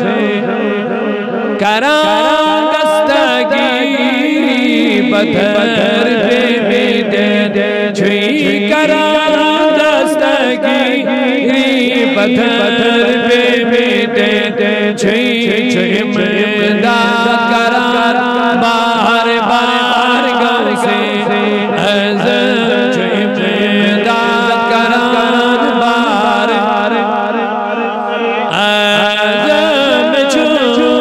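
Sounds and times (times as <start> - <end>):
man chanting devotional poem: 0.0 - 31.0.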